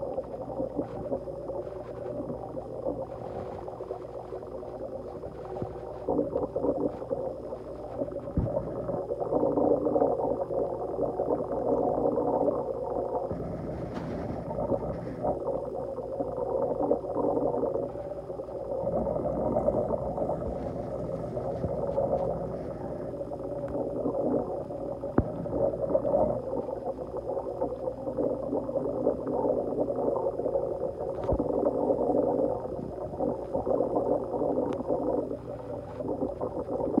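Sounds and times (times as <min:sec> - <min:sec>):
aquarium equipment hum: 0:00.0 - 0:37.0
water gurgling and bubbling: 0:00.0 - 0:37.0.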